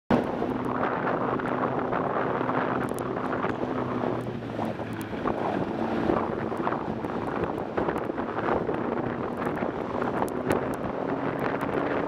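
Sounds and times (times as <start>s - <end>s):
snowmobile engine running: 0.1s - 12.0s
wind rushing over microphone: 0.1s - 12.0s.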